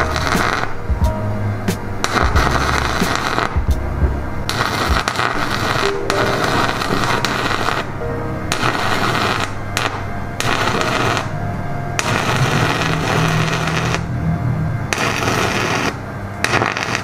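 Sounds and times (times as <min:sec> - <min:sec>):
welding arc crackling: 0:00.0 - 0:01.0, 0:01.6 - 0:03.8, 0:04.4 - 0:11.4, 0:12.0 - 0:14.1, 0:14.9 - 0:17.0.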